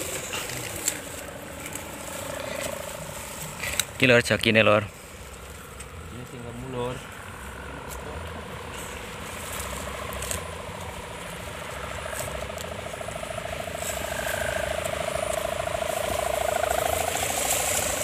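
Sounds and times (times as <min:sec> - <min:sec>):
kite hummer droning buzz: 0:00.0 - 0:18.0.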